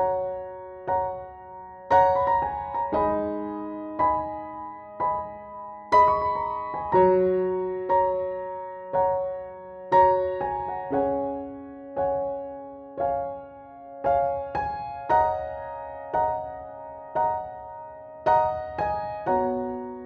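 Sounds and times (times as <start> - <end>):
slow solo piano: 0.0 - 20.0.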